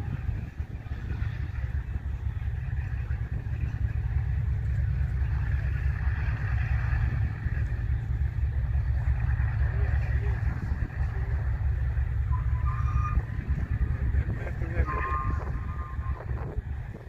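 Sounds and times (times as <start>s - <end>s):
aircraft piston engines rumbling: 0.0s - 17.0s.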